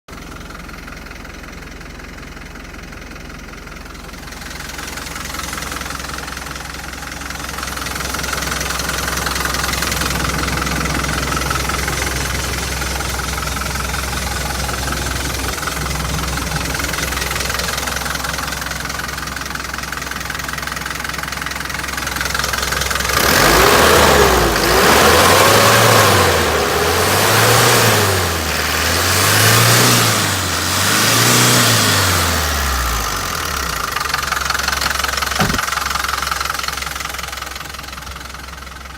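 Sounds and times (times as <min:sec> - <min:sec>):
truck engine idling and revving: 0:00.1 - 0:38.9.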